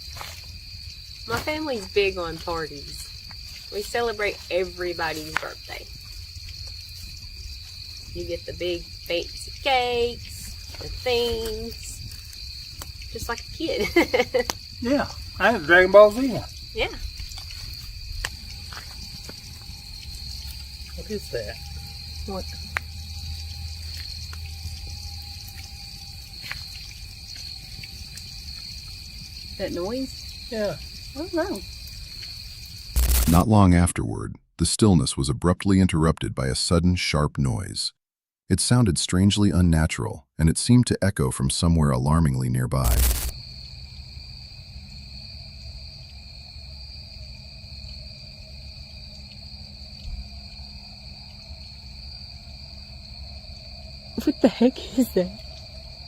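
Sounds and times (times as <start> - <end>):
crickets trilling: 0.0 - 33.8, 41.8 - 56.0.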